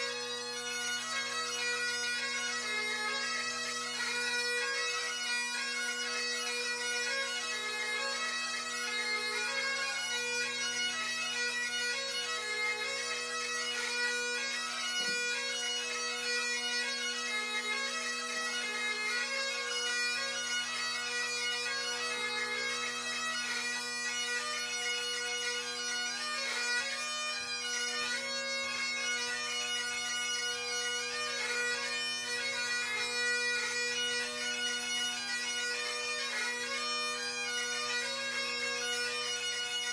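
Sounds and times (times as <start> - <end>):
bagpipe chanter melody: 0.0 - 39.9
bagpipe drones: 0.0 - 39.9.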